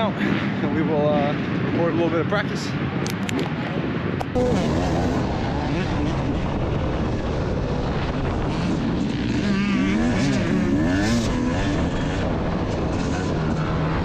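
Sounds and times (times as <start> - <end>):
dirt bike engines revving: 0.0 - 14.0
steady engine drone: 2.7 - 14.0.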